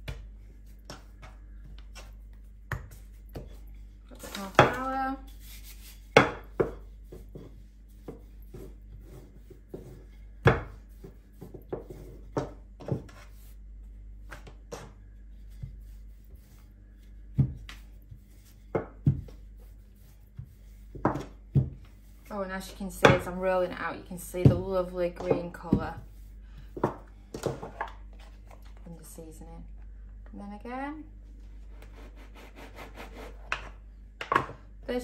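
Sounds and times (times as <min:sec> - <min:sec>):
rolling pin rolling dough: 0:00.0 - 0:28.3.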